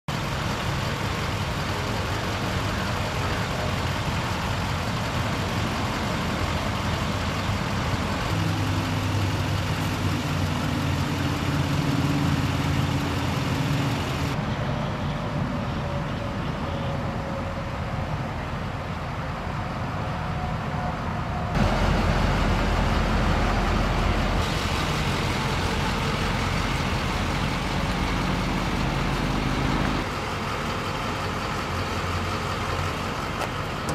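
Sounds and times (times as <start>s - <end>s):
diesel truck engine idling: 0.1s - 17.0s, 21.5s - 33.9s.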